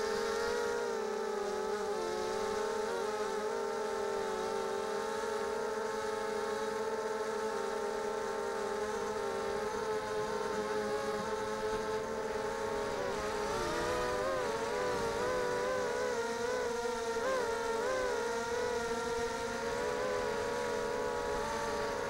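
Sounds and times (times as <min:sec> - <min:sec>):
drone motors buzzing: 0:00.0 - 0:22.0.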